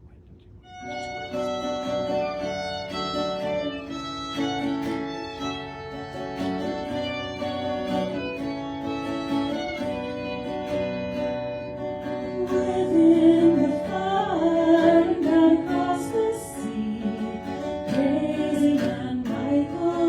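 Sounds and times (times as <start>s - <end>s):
plucked strings accompaniment: 0.6s - 20.0s
violin folk melody: 0.6s - 20.0s.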